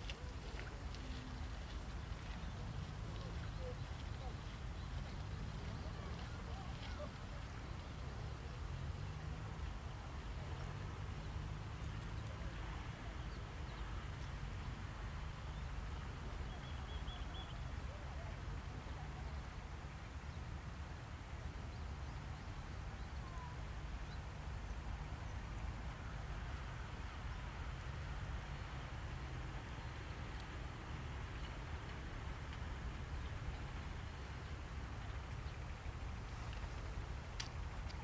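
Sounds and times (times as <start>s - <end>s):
faint hiss: 0.0s - 38.0s
low outdoor rumble: 0.0s - 38.0s.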